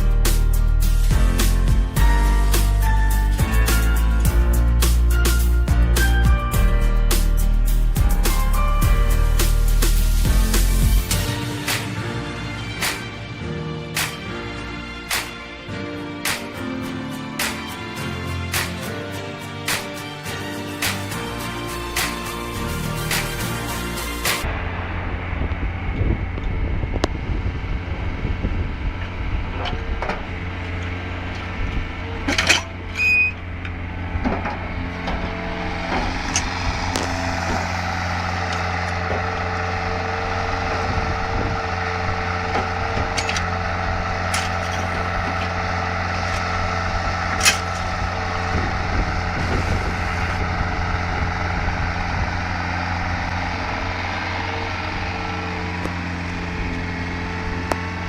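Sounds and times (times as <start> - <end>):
heavy machinery engine droning: 0.0 - 58.0.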